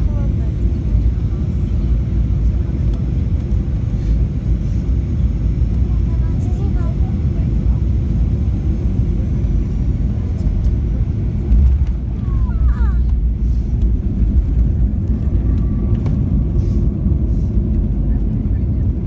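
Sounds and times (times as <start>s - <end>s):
plane cabin low rumble: 0.0s - 19.0s.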